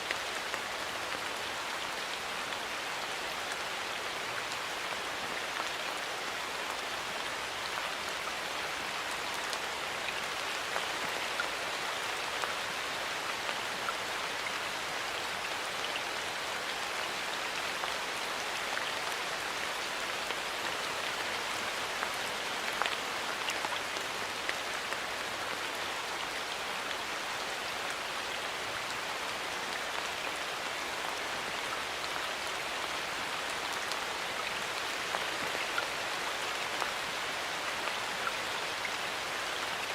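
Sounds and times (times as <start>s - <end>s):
raindrops pattering on leaves: 0.0s - 39.9s
steady rain hiss: 0.0s - 39.9s.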